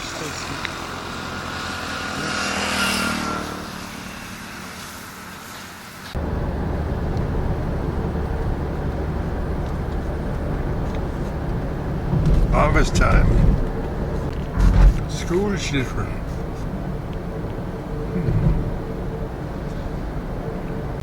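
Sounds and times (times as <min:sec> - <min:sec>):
low rumble of moving vehicle: 0:00.0 - 0:21.0
vehicle engine hum: 0:00.0 - 0:21.0.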